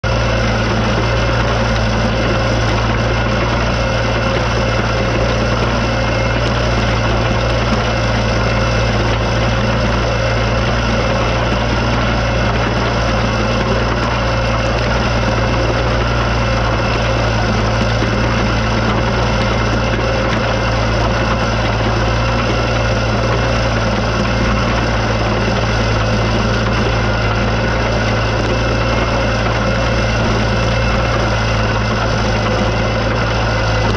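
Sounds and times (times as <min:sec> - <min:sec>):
trencher engine under load: 0:00.0 - 0:33.9.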